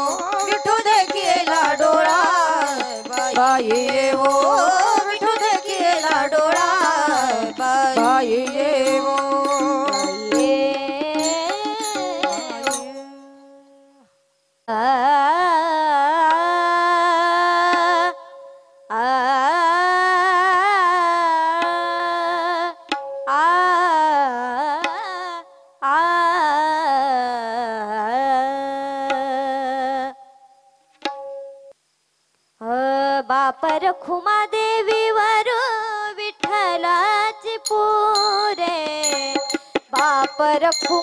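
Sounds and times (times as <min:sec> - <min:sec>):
woman singing: 0:00.0 - 0:14.1, 0:14.7 - 0:30.4, 0:32.6 - 0:41.0.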